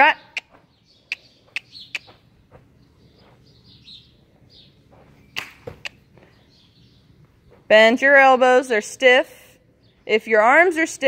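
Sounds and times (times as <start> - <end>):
small birds chirping: 0.0 - 8.8, 9.6 - 11.0.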